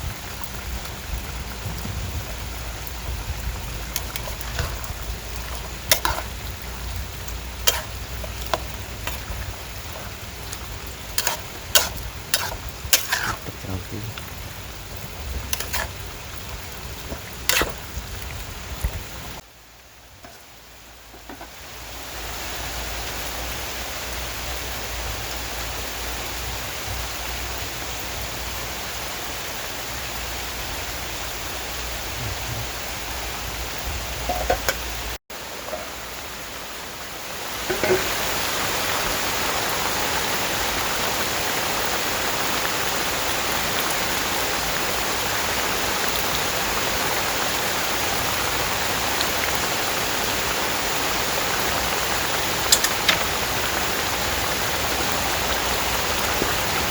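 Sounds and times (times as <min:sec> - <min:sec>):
rain hiss: 0:00.0 - 0:56.9.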